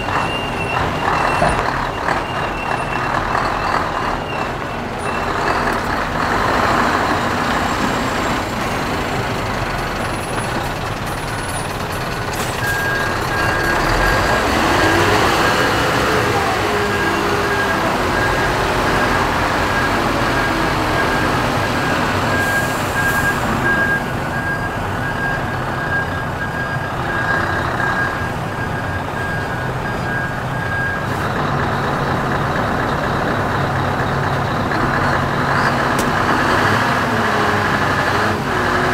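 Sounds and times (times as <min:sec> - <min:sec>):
reversing alarm beeping: 0:00.0 - 0:08.6, 0:11.2 - 0:37.0
diesel truck engine running: 0:00.0 - 0:38.9.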